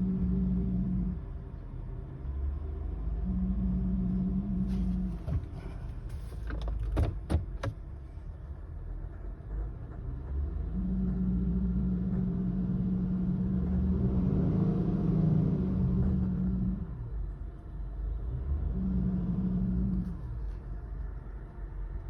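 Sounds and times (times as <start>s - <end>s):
low rumble: 0.0s - 6.3s, 7.8s - 22.0s
steady vehicle hum: 0.0s - 22.0s.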